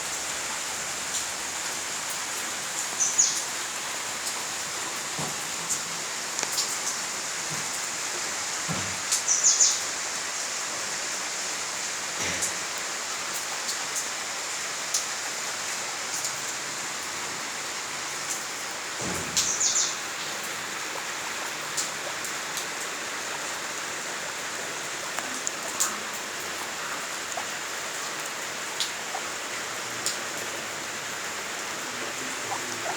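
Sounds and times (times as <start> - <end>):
steady hiss: 0.0 - 32.9.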